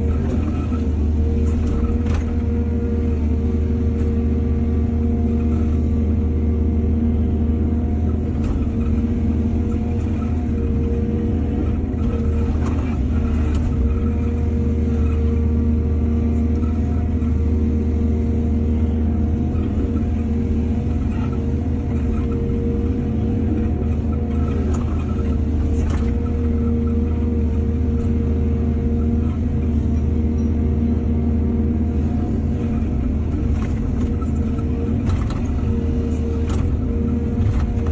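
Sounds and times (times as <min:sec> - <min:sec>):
excavator diesel engine humming: 0:00.0 - 0:37.9.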